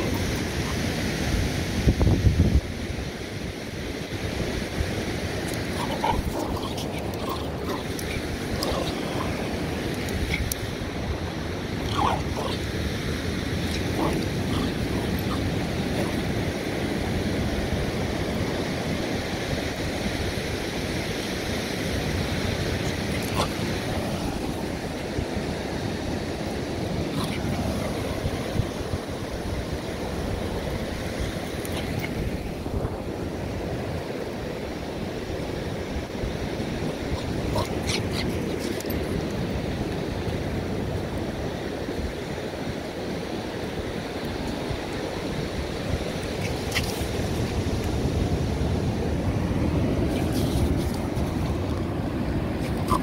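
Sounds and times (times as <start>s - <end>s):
wind on microphone: 0.0s - 34.1s, 34.8s - 53.0s
ocean surf on beach: 0.0s - 53.0s.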